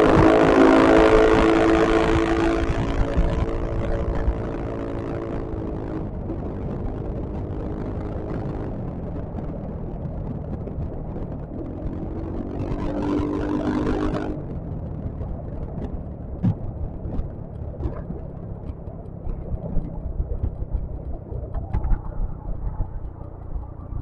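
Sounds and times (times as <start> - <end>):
pitched multi-tone hum: 0.0 - 24.0
scooter engine and road rumble: 0.0 - 24.0.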